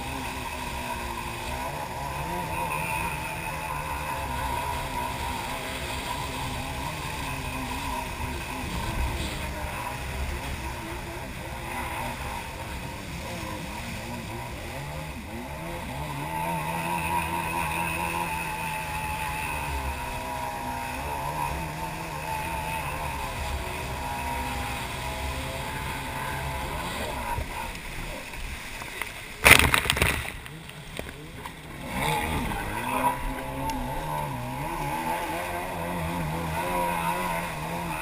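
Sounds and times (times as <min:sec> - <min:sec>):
jet ski engine running: 0:00.0 - 0:38.0
rushing water and spray: 0:00.0 - 0:38.0.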